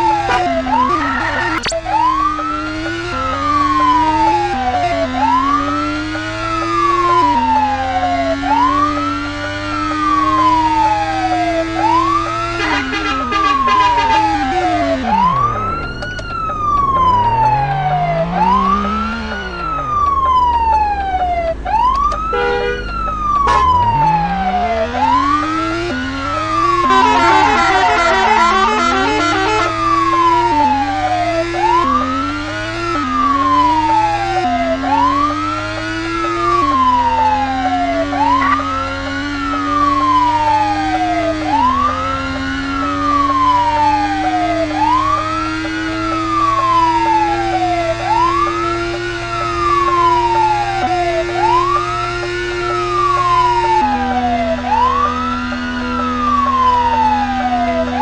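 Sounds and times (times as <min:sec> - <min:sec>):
police car siren wailing: 0:00.0 - 0:58.0.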